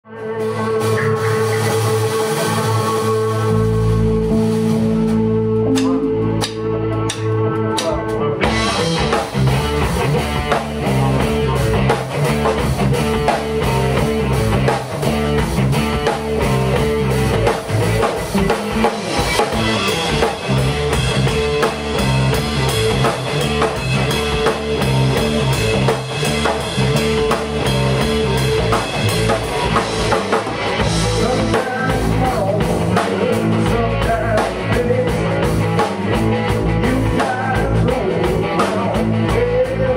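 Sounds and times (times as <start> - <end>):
electric bass: 0.0 - 39.9
electric guitar: 0.0 - 39.9
drum kit: 0.1 - 39.9.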